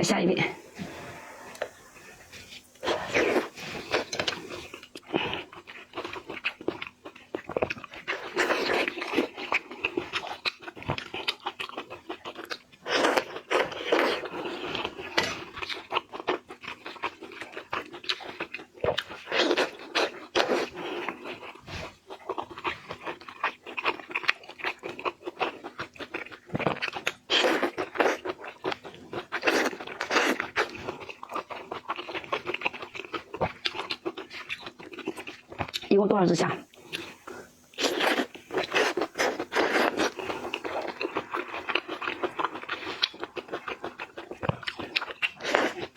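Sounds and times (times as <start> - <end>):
person chewing seafood: 0.6 - 35.9, 36.6 - 45.9.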